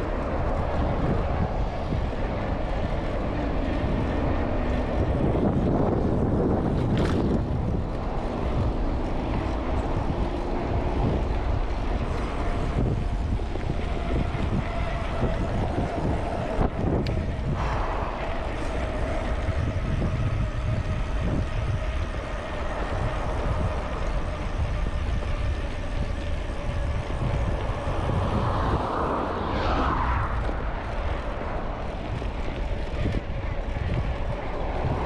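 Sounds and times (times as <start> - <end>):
road traffic passing: 0.0 - 35.0
wind buffeting microphone: 0.0 - 35.0.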